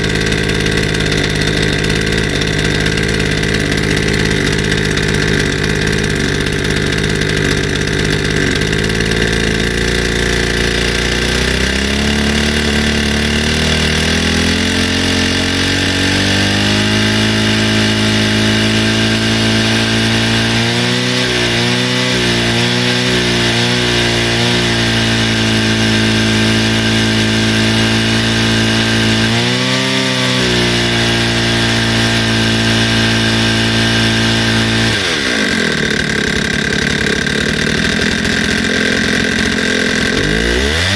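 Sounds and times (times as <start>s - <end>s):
brushcutter engine running: 0.0s - 40.9s.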